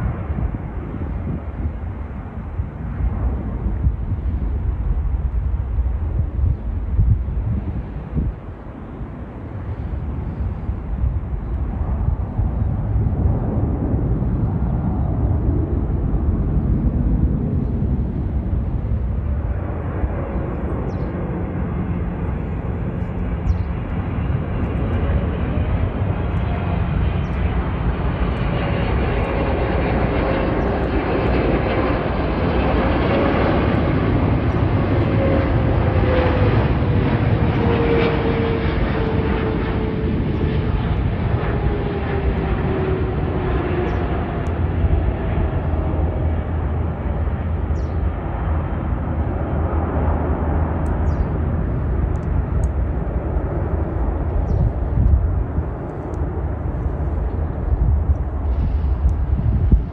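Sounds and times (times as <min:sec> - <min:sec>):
jet engines passing by: 0:00.0 - 0:59.9.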